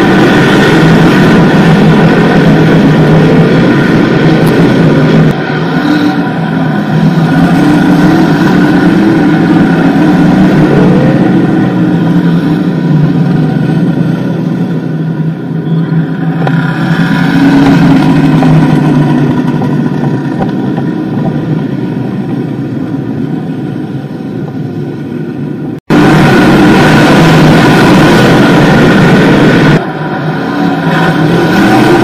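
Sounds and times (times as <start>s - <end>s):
race car engines roaring: 0.0s - 32.0s.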